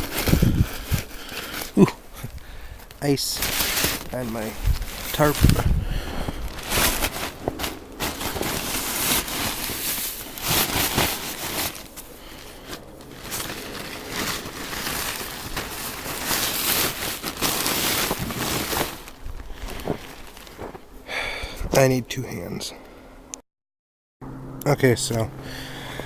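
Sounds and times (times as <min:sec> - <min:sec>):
icy plastic tarp crinkling: 0:00.0 - 0:20.9.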